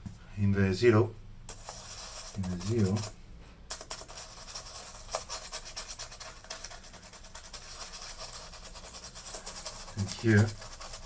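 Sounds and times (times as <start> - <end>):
scratchy rubbing on keyboard keys: 1.5 - 11.0.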